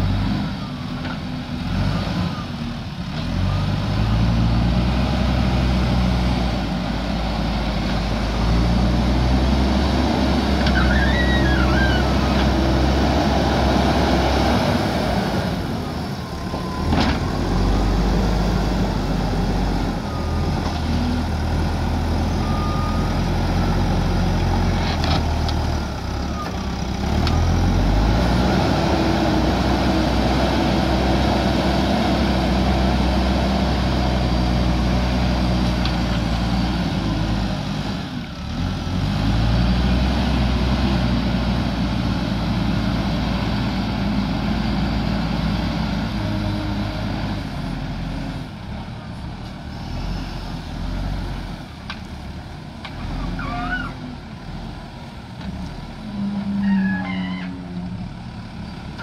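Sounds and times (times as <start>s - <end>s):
loader bucket pushing soil: 0.0s - 54.1s
diesel engine running under load: 0.0s - 59.0s.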